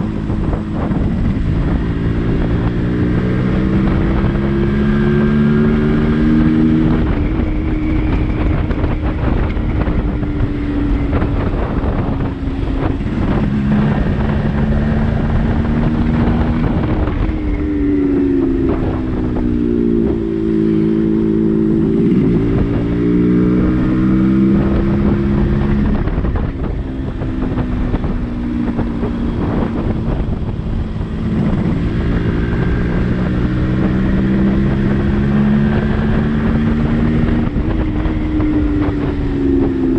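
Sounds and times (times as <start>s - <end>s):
two-stroke motorcycle engine running: 0.0s - 39.9s
wind rushing over microphone: 0.0s - 39.9s.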